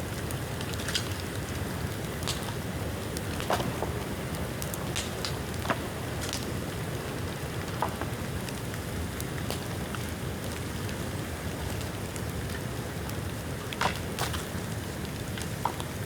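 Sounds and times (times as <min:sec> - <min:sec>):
fire crackling and popping: 0:00.0 - 0:16.0
rushing noise of fire: 0:00.0 - 0:16.0.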